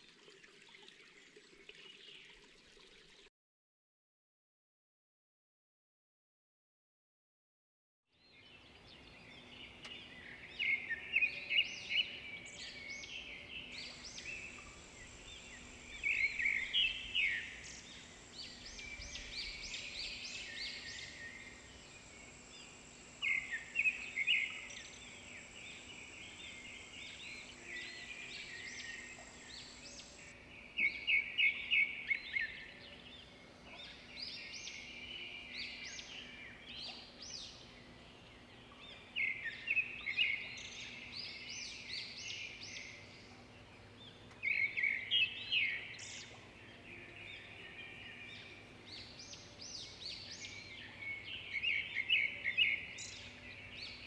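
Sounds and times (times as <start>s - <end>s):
songbirds singing: 8.2s - 54.0s.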